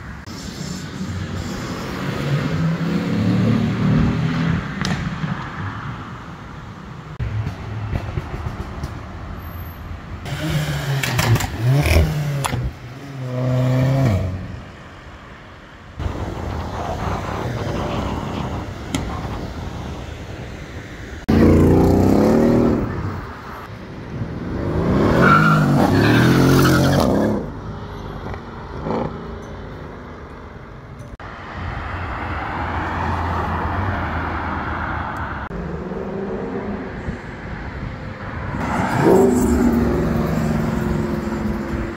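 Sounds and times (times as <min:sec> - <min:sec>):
traffic noise: 0:00.0 - 0:41.9.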